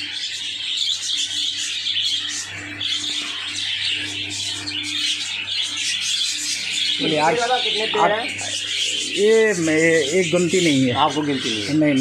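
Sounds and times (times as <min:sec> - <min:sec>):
cage birds chattering and chirping: 0:00.0 - 0:12.0
steady low hum: 0:00.0 - 0:12.0.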